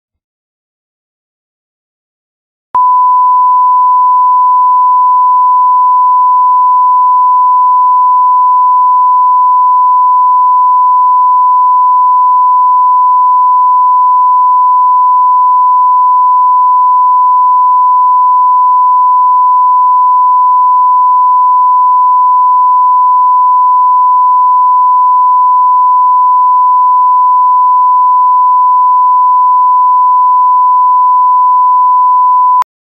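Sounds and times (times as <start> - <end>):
censor bleep tone: 2.8 - 32.7.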